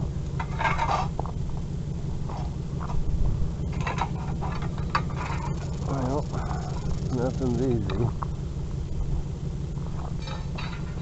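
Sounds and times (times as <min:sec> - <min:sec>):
junk clattering and scraping: 0:00.0 - 0:07.2, 0:09.0 - 0:11.0
steady low rumble: 0:00.0 - 0:11.0.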